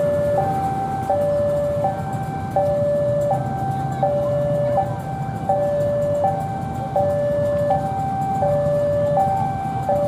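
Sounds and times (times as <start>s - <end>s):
two-tone railway warning alarm: 0.0s - 10.0s.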